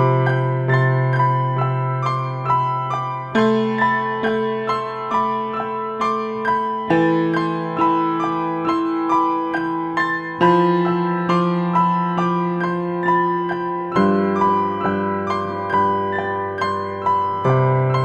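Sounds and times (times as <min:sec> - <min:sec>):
calm solo piano music: 0:00.0 - 0:18.0.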